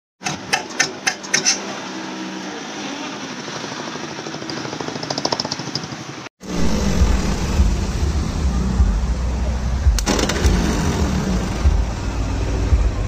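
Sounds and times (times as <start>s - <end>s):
diesel engine running rough: 0.3s - 13.0s.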